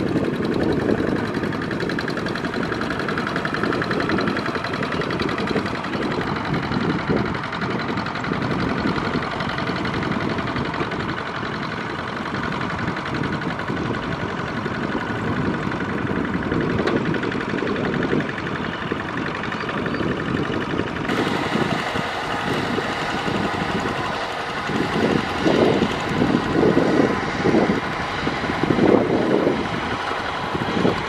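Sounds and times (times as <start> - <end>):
diesel engine knocking: 0.0 - 31.0
wheels churning through water: 0.0 - 31.0.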